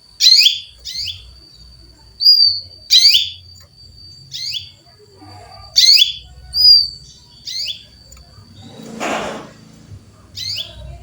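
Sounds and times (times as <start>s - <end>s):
canary chirping: 0.0s - 11.0s.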